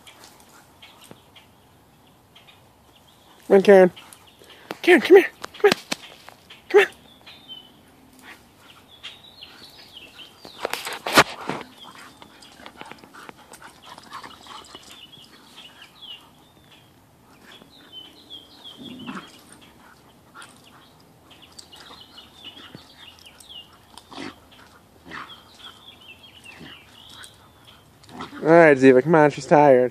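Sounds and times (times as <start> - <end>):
dogs play-fighting: 0.0 - 1.8, 2.6 - 4.4, 5.4 - 28.6.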